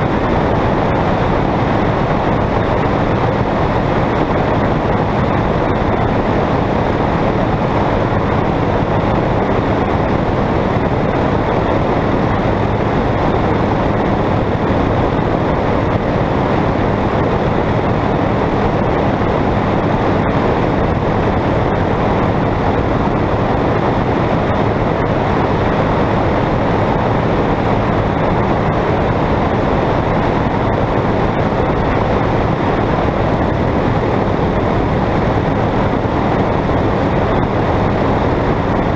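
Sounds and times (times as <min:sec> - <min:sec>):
heavy wind rush: 0:00.0 - 0:38.9
light aircraft engine and propeller: 0:00.0 - 0:38.9.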